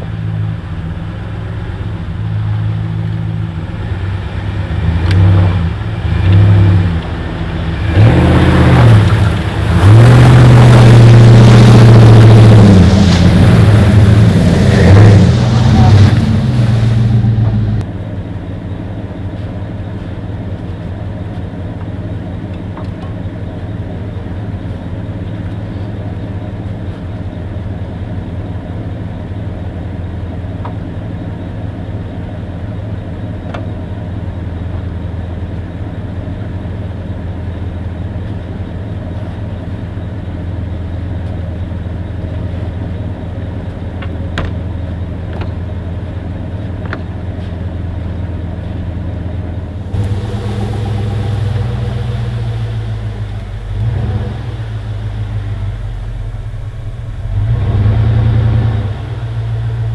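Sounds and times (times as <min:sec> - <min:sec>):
low motor drone: 0:00.0 - 0:59.9.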